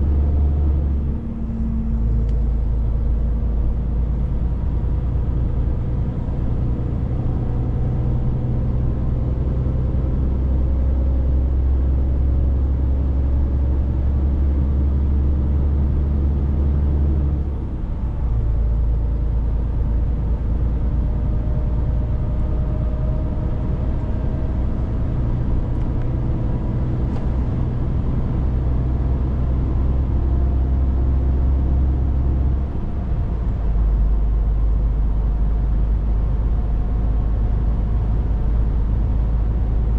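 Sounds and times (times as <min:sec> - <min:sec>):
truck engine drone: 0:00.0 - 0:39.9.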